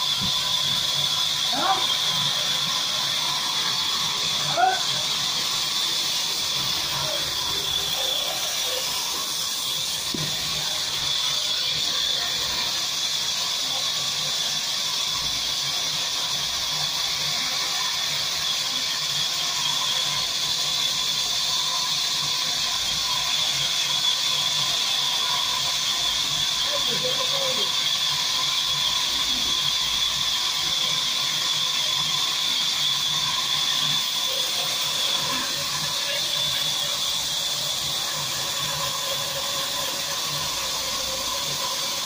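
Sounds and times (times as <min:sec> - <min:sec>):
band saw whining: 0:00.0 - 0:42.0.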